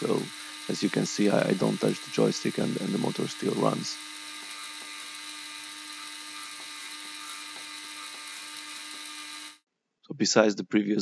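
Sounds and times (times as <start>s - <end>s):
toy motor humming and whining: 0.0s - 9.6s.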